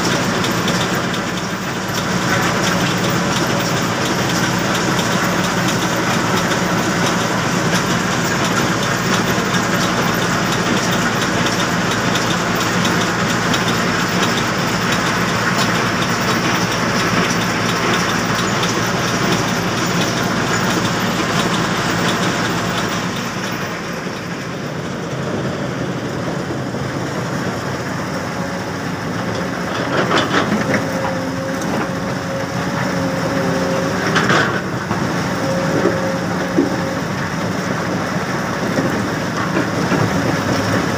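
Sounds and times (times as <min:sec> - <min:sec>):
screening plant mechanical clatter: 0:00.0 - 0:25.2, 0:29.0 - 0:40.9.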